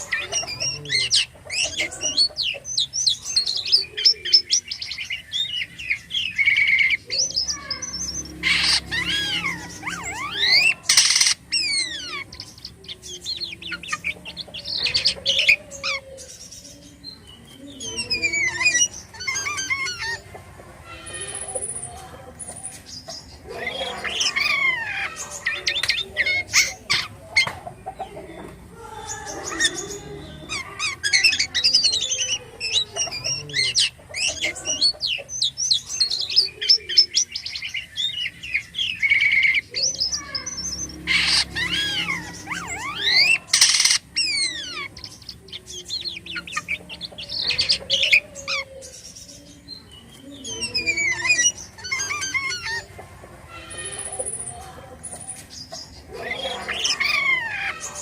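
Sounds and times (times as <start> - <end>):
starling singing: 0.0 - 58.0.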